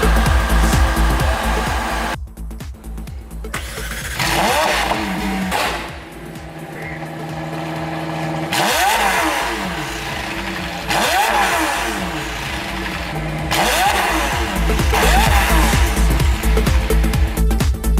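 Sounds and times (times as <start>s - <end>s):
sports car engine revving: 0.0s - 2.2s, 2.9s - 17.9s.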